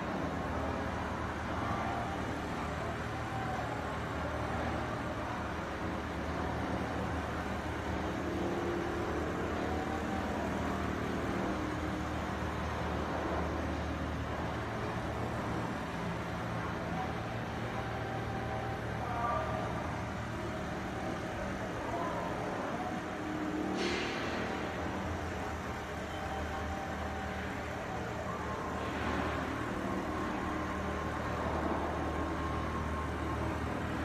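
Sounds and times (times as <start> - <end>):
machine whines: 0.1 - 34.0.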